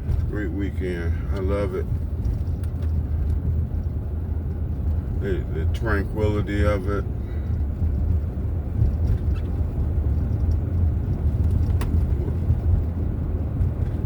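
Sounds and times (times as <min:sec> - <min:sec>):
van engine and tyres rumbling: 0:00.0 - 0:14.0.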